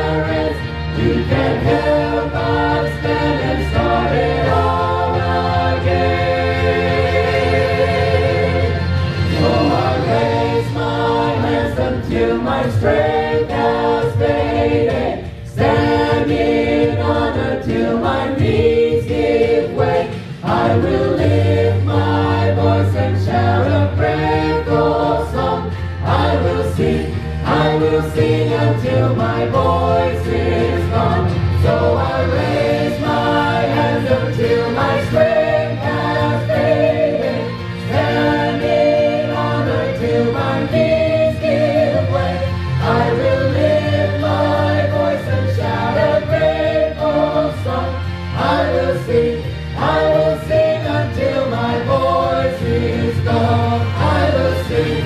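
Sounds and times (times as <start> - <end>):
choir singing worship song: 0.0 - 55.0.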